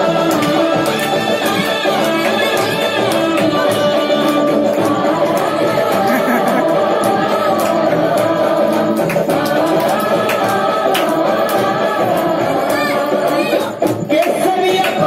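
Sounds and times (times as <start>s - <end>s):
devotional singing with music: 0.0s - 15.0s
steady percussion beat: 0.0s - 15.0s.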